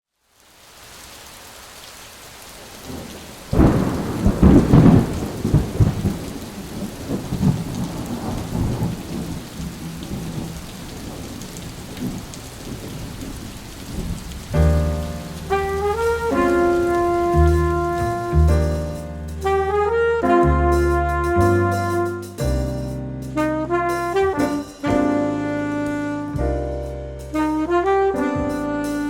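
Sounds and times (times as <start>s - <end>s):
steady rain: 0.1s - 29.0s
thunder clap and rumble: 2.8s - 29.0s.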